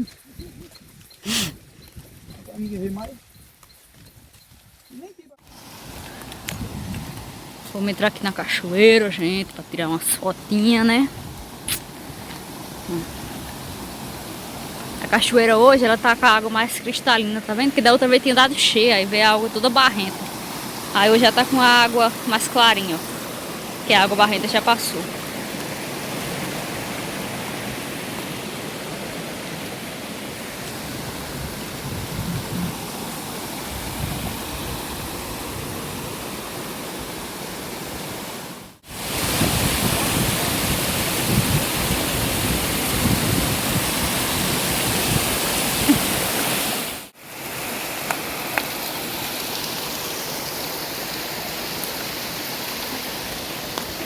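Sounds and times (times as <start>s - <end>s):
water rushing over waterfall: 7.3s - 54.0s.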